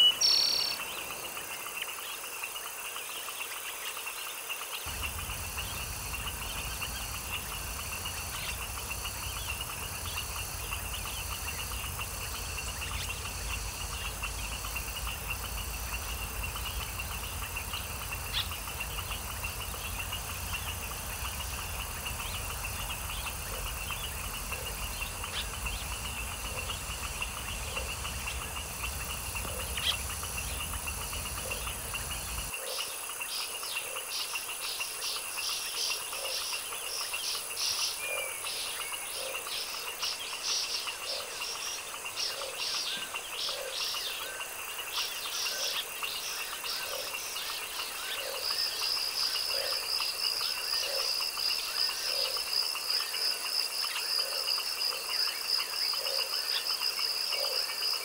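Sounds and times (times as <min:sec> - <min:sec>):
frog croaks: 0:00.0 - 0:58.0
night insects trilling: 0:00.0 - 0:58.0.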